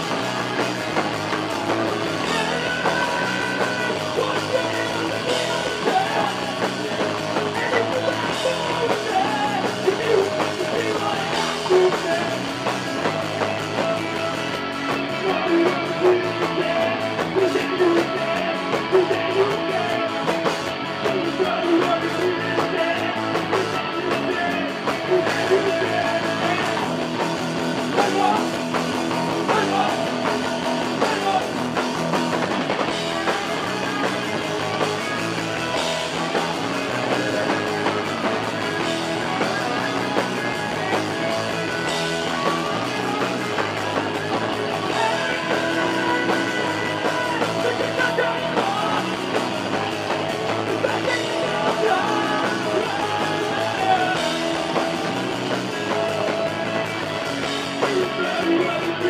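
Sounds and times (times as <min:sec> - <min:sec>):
punk rock band playing live: 0:00.0 - 0:59.0.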